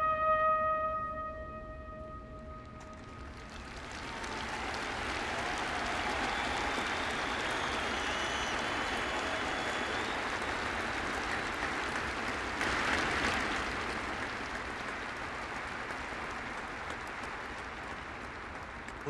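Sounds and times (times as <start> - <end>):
crowd applauding: 2.9 - 19.0.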